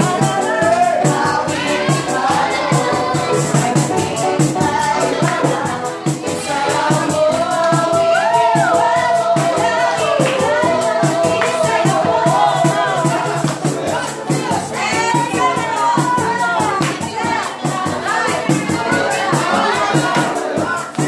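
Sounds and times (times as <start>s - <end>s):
dance music with fast beat: 0.0s - 21.0s.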